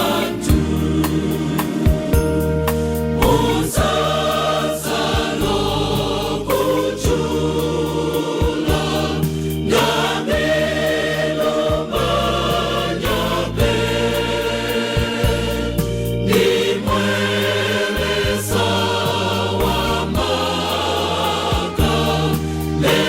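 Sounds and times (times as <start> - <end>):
band accompaniment with bass and beat: 0.0 - 23.0
choir singing gospel: 0.0 - 23.0.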